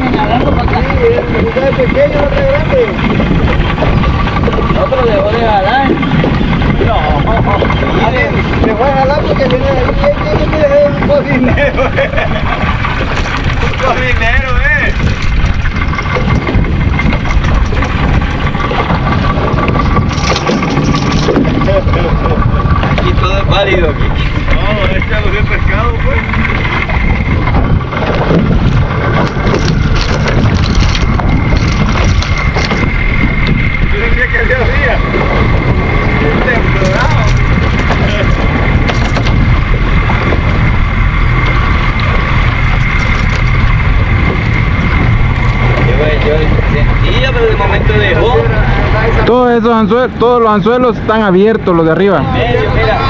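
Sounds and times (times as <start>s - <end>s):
outboard motor running: 0.0s - 53.0s
wind buffeting microphone: 0.0s - 53.0s.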